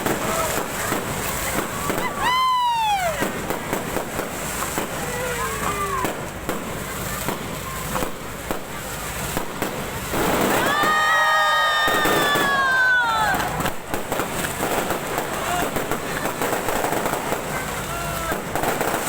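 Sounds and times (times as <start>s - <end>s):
fireworks popping and crackling: 0.0s - 19.0s
whistling fireworks: 0.0s - 19.0s.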